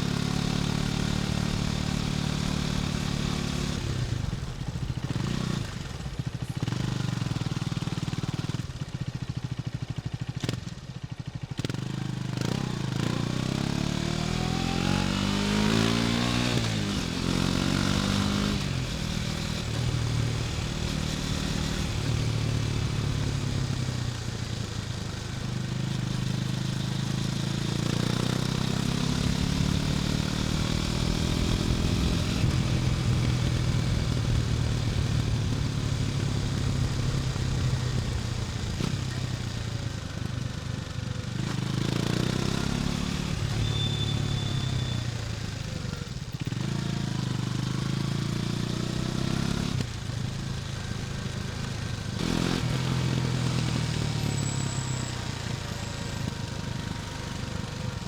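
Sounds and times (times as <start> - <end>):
motorcycle engine revving: 0.0 - 11.0, 11.6 - 58.0.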